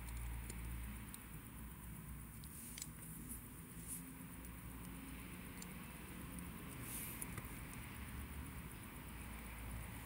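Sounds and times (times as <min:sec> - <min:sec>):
room noise rumble and hiss: 0:00.0 - 0:10.0.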